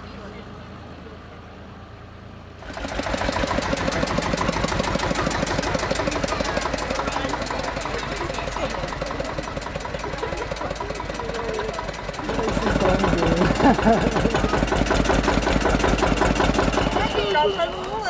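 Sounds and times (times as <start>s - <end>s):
old tractor engine chugging: 2.6s - 18.0s.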